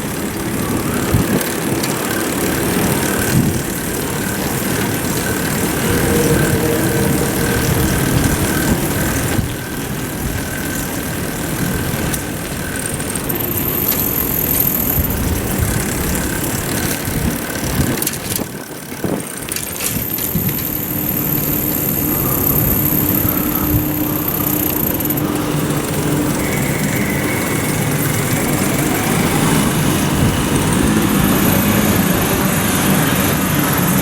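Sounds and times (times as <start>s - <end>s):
thin high whine: 0.0s - 18.1s, 19.0s - 34.0s
wind rushing over microphone: 0.0s - 34.0s.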